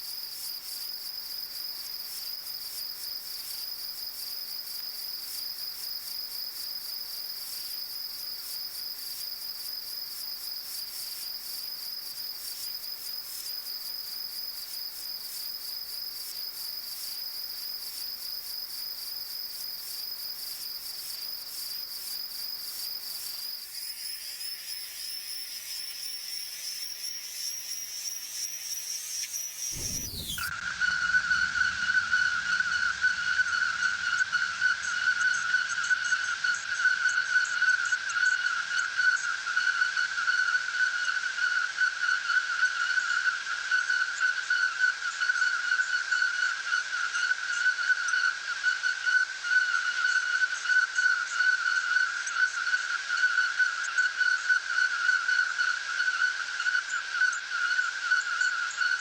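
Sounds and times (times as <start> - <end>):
insect chorus trilling: 0.0 - 59.0.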